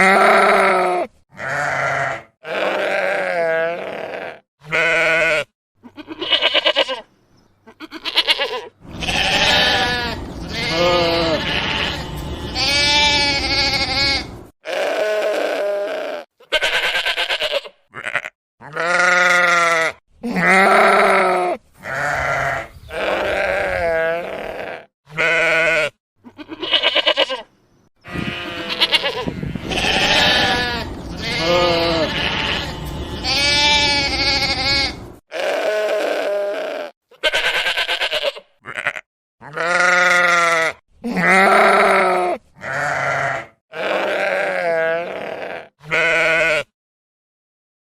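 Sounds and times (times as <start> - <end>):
sheep bleating: 0.0 - 46.7.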